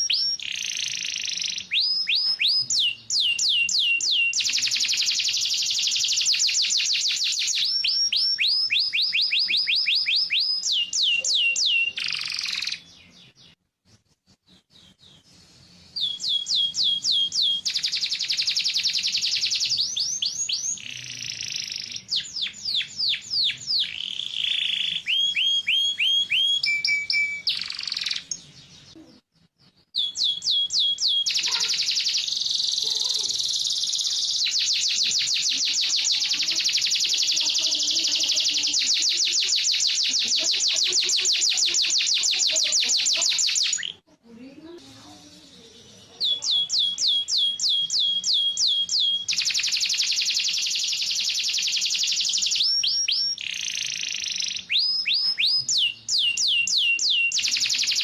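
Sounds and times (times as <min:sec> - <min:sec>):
canary singing in rolling trills: 0:00.0 - 0:58.0.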